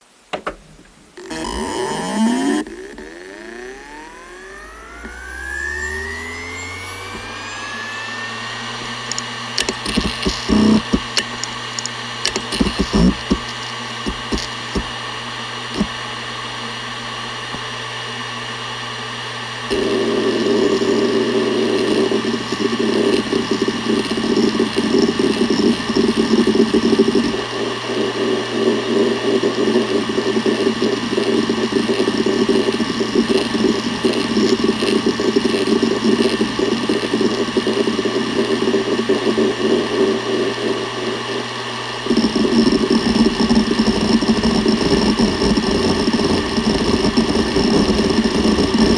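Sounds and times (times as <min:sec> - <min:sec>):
hard drive spinning hum: 0:00.0 - 0:48.9
hard drive head seek ticks: 0:01.2 - 0:07.4, 0:08.8 - 0:16.0, 0:19.7 - 0:48.9.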